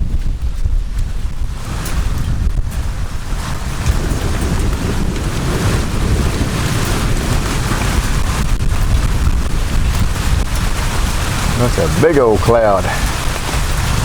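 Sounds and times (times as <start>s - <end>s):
rain falling: 0.0s - 14.0s
wind buffeting microphone: 0.0s - 14.0s.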